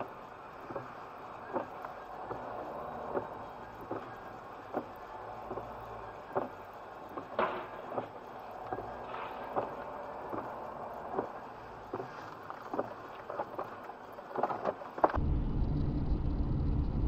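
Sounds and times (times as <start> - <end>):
road noise inside vehicle: 0.0 - 17.0.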